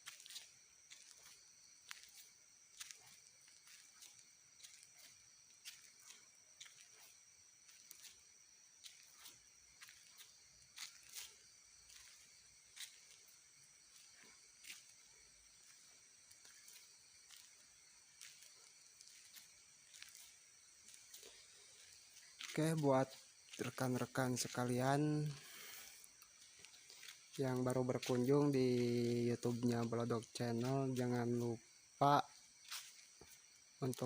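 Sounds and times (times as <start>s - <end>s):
night insects chirring: 0.0s - 34.0s.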